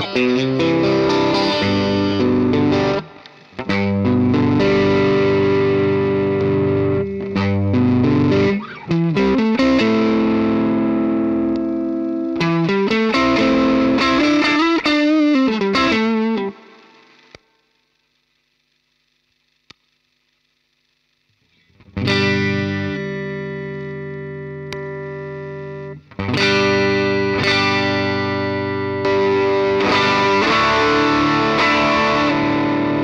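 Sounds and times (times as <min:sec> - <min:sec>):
distorted electric guitar: 0:00.0 - 0:33.0.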